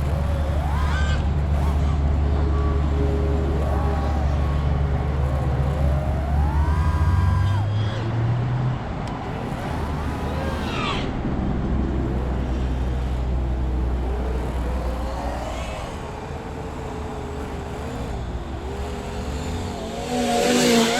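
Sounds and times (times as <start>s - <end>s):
quadcopter motors whining: 0.0s - 20.9s.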